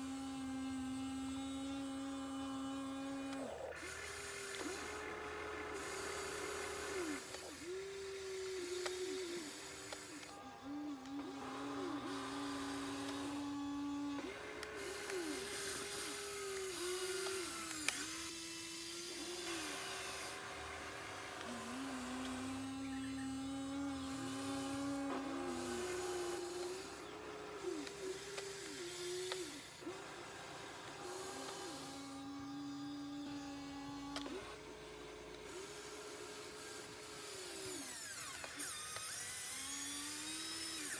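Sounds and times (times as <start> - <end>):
toy excavator electric motors whining: 0.0 - 40.9.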